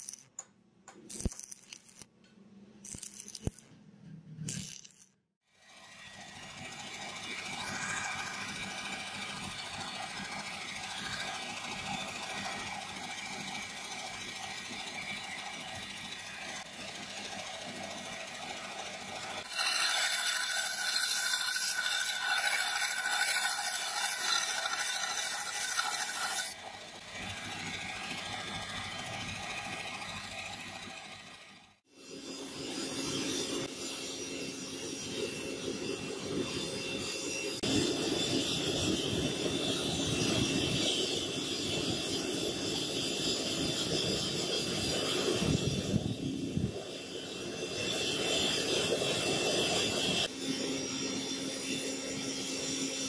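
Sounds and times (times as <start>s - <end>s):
belt grinder hissing: 5.6s - 51.0s
blade grinding on belt: 5.6s - 53.0s.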